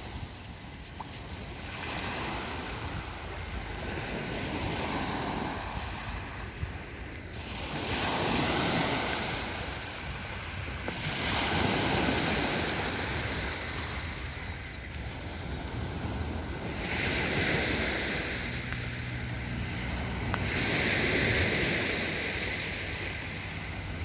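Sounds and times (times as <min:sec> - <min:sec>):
small waves breaking on shore: 0:00.0 - 0:24.0.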